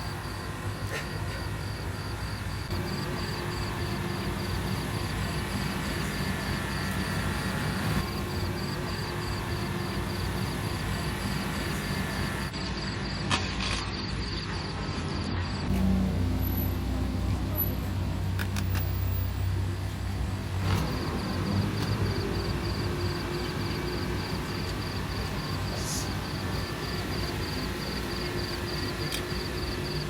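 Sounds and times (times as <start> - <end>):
traffic rumble: 0.0 - 12.6, 13.3 - 30.0.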